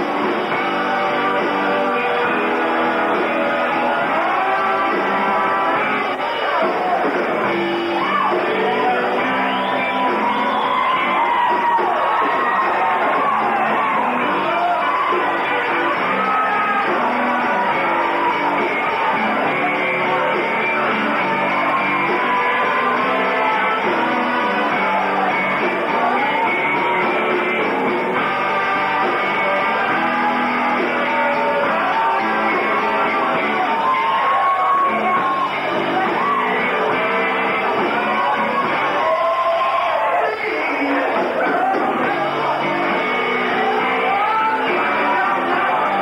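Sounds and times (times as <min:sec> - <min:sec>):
live rock band playing: 0:00.0 - 0:46.0
person singing: 0:00.0 - 0:46.0.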